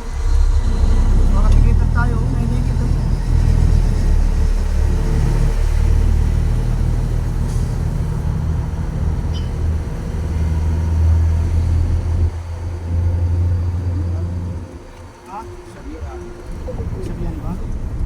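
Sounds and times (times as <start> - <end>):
truck engine droning: 0.0 - 18.0.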